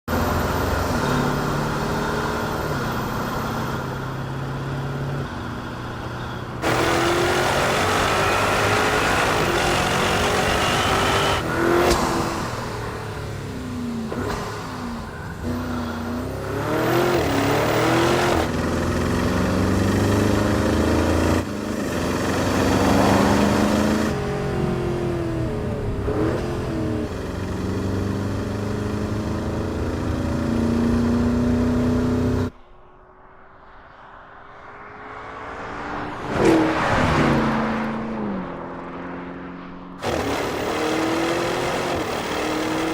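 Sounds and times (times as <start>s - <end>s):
car engine revving and accelerating: 0.1s - 32.5s, 34.6s - 42.9s.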